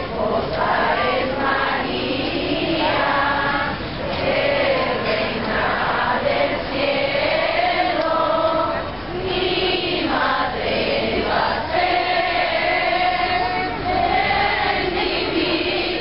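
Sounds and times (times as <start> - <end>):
crowd singing in unison: 0.0 - 16.0.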